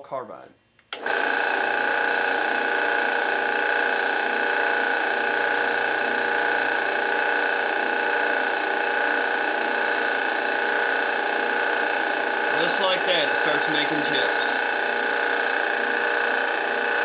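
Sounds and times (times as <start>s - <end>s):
drill press boring into steel: 1.0s - 17.0s.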